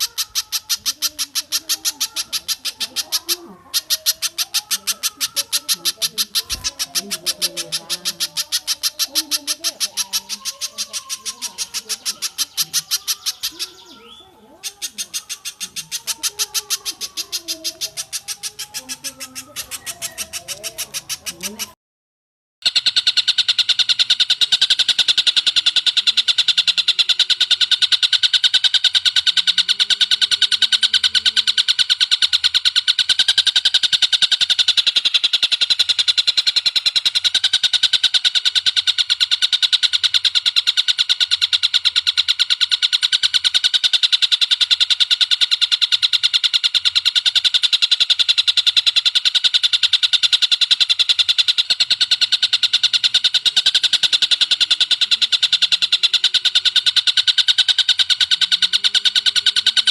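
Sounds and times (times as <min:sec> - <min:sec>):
fast bird trill: 0:00.0 - 0:21.8, 0:22.6 - 0:59.9
rapid high bird notes: 0:00.0 - 0:21.8, 0:22.6 - 0:59.9
softer lower bird calls: 0:00.0 - 0:21.8, 0:22.7 - 0:59.9.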